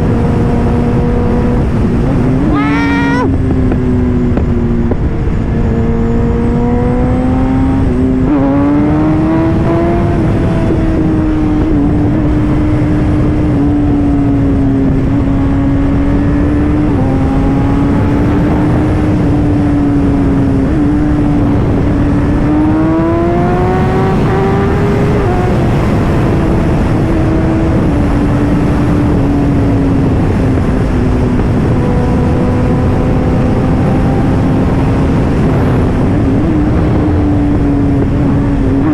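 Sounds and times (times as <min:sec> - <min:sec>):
motorcycle engine running: 0:00.0 - 0:38.9
rushing wind noise: 0:00.0 - 0:38.9.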